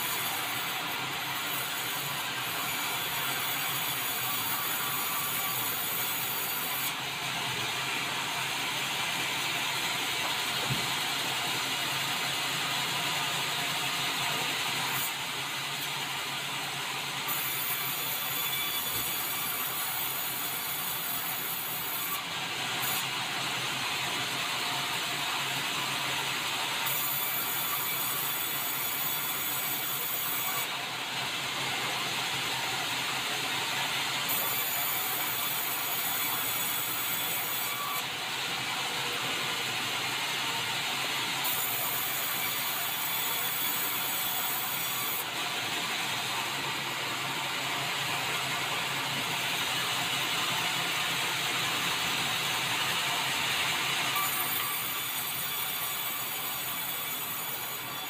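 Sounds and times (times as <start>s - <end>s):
band saw cutting wood: 0.0s - 23.2s, 26.7s - 58.0s.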